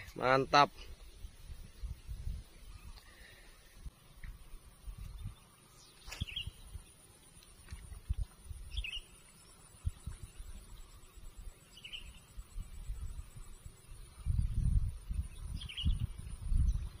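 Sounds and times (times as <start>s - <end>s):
faint high hiss: 0.0s - 17.0s
bird chirping: 0.9s - 7.5s, 8.4s - 17.0s.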